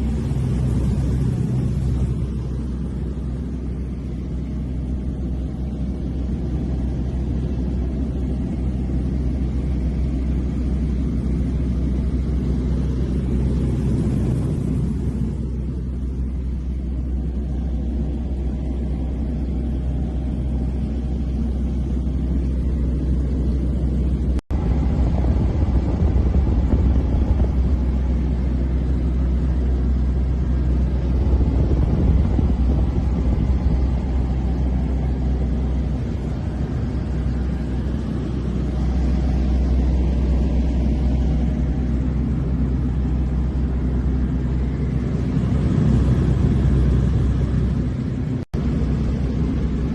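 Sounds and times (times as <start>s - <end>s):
airplane engine and propeller droning: 0.0s - 49.9s.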